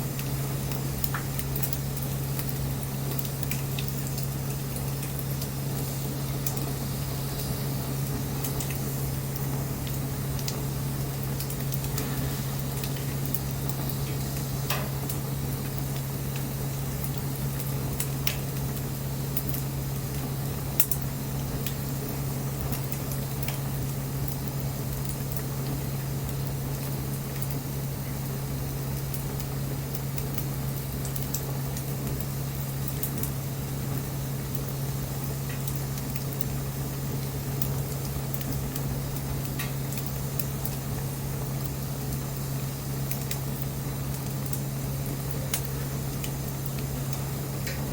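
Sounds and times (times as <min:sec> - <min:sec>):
bonfire hissing: 0:00.0 - 0:47.9
constant low hum: 0:00.0 - 0:47.9
fire crackling pops: 0:00.0 - 0:47.9.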